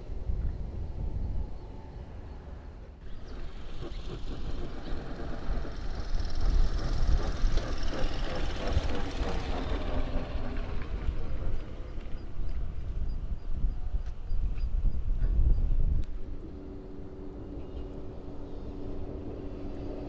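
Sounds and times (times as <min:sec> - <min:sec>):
tram passing rumble: 0:00.0 - 0:20.0.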